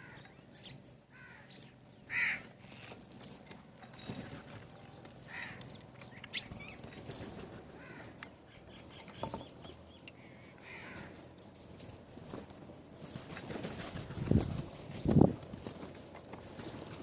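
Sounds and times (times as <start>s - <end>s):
birds chirping: 0.0s - 15.4s, 16.4s - 17.0s.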